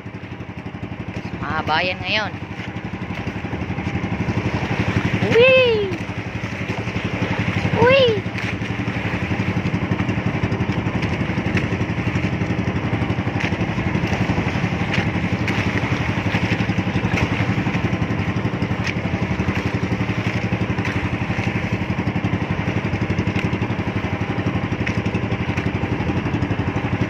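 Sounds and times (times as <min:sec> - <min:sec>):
small boat engine running: 0:00.0 - 0:27.0.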